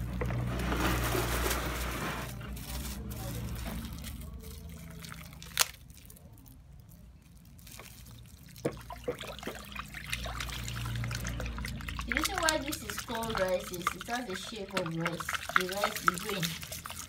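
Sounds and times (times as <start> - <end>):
granules trickling into water: 0.0 - 17.0
wooden stick stirring: 0.0 - 17.0.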